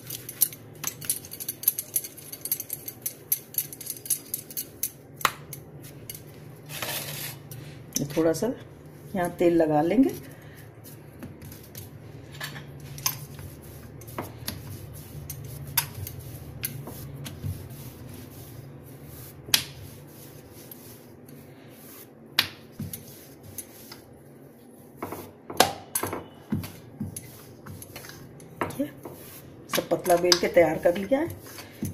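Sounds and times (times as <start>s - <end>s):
rolling pin rolling dough: 0.0s - 31.9s.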